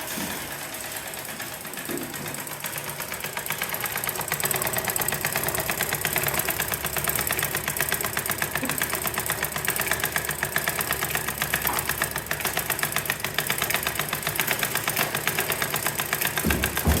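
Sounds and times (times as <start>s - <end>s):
engine knocking steadily: 0.0s - 17.0s.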